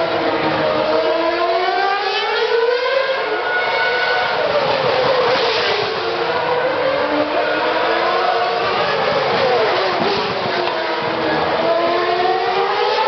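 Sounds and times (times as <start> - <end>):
racing car engines passing: 0.0 - 13.0.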